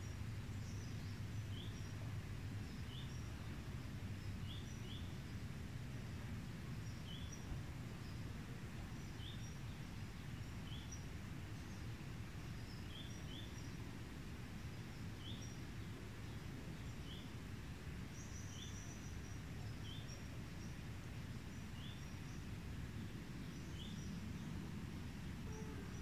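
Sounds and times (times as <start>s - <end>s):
small birds chirping: 0.0s - 24.8s
low steady rumble: 0.0s - 26.0s.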